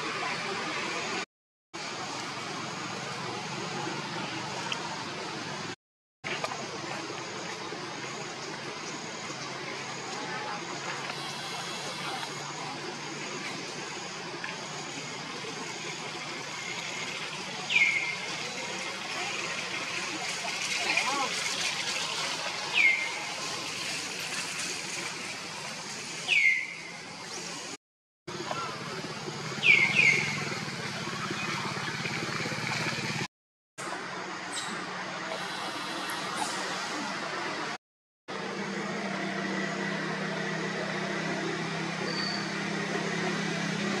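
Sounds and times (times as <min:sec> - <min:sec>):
outdoor background hum and hiss: 0:01.8 - 0:44.0.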